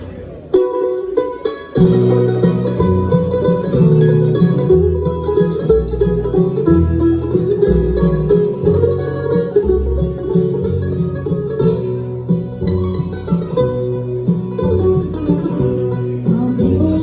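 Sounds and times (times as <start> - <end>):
banjo picking: 0.0 - 17.0
guitar: 0.0 - 17.0
low bass notes: 0.0 - 17.0.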